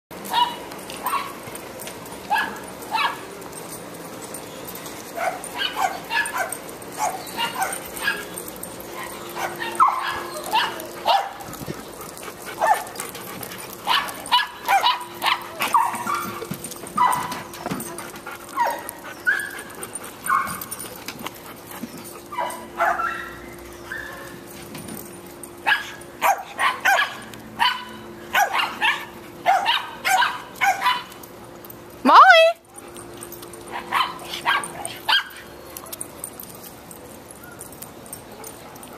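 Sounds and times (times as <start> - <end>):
dogs barking and yipping: 0.2 - 38.9.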